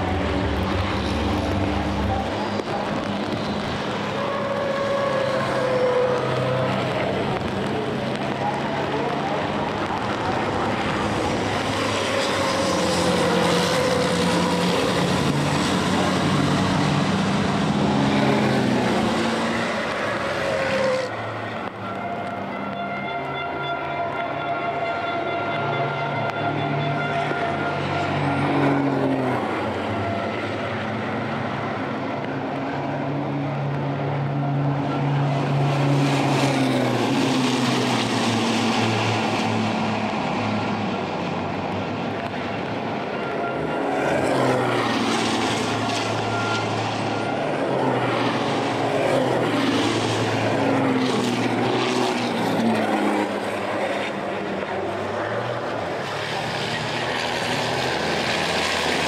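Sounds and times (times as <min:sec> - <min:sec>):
racing truck engines passing: 0:00.0 - 0:59.0.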